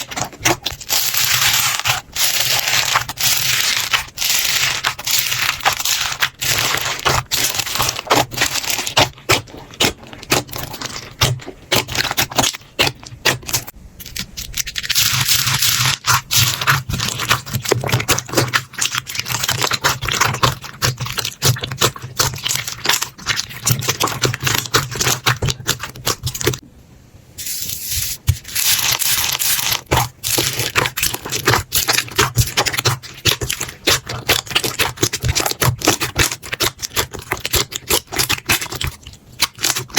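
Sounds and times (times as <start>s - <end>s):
slime crackling and popping: 0.0s - 26.6s, 28.2s - 39.9s.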